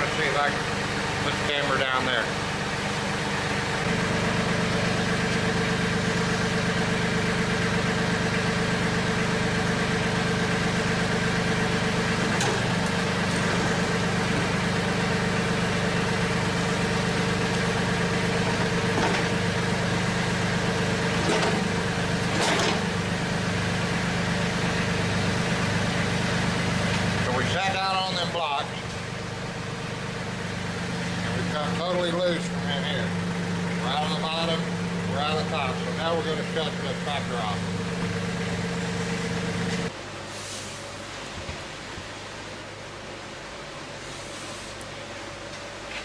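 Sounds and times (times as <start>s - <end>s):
tractor diesel engine running: 0.0s - 40.2s.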